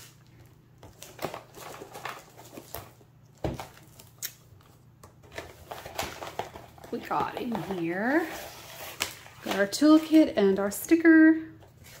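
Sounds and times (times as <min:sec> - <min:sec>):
cardboard packaging rustling: 0:00.0 - 0:10.3.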